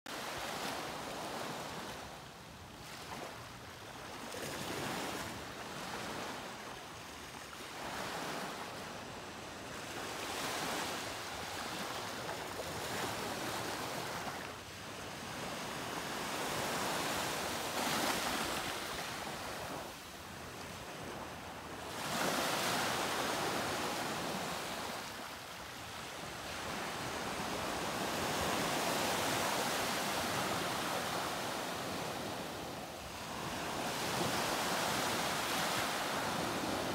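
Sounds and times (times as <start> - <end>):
small waves washing onto beach: 0.1 - 36.9.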